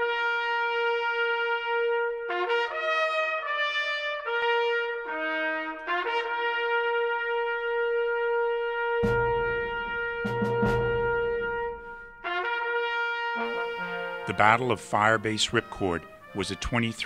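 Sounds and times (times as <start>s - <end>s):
slow brass music with trumpet: 0.0s - 17.0s.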